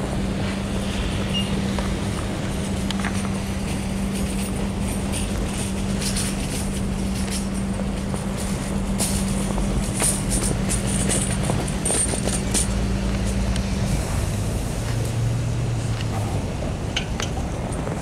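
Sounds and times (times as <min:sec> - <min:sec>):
electric bus humming: 0:00.0 - 0:18.0
street noise: 0:00.0 - 0:18.0.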